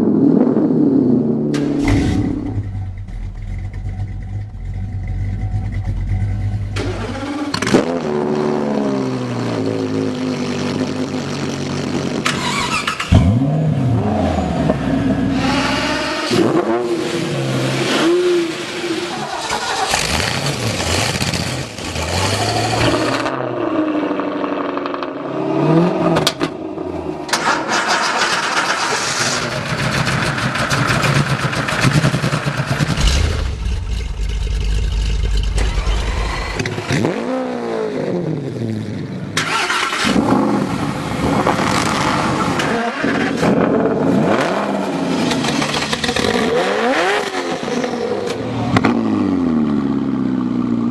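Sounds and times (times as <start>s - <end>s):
car engines revving hard: 6.7s - 50.9s.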